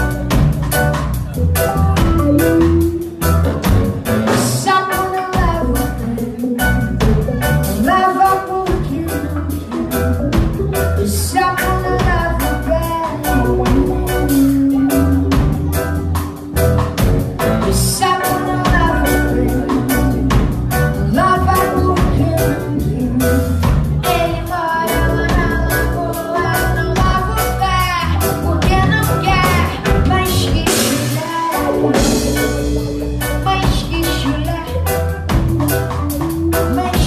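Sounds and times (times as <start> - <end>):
live band music: 0.0 - 37.0
woman singing: 4.2 - 16.8, 17.4 - 37.0.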